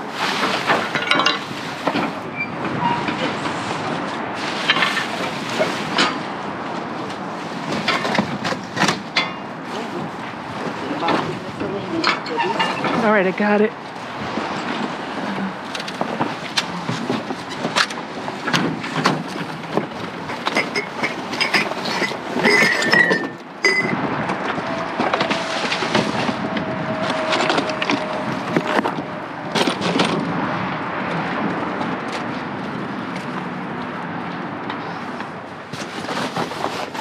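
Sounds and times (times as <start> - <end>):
trash rummaged in dumpster: 0.0 - 30.6, 34.8 - 37.0.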